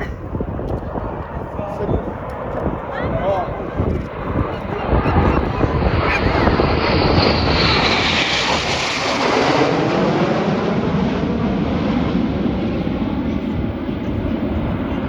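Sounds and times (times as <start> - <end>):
aircraft engine roar passing: 0.0 - 15.0.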